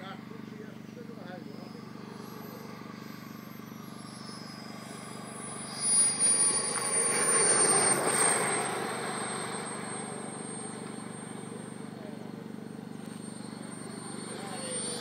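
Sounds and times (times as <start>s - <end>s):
model jet engine whine: 0.0s - 15.0s.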